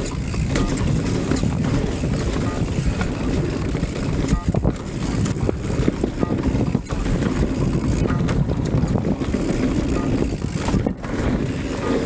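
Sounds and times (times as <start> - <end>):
mountain bike rattling over dirt: 0.0 - 12.0
wind rumbling on microphone: 0.0 - 12.0.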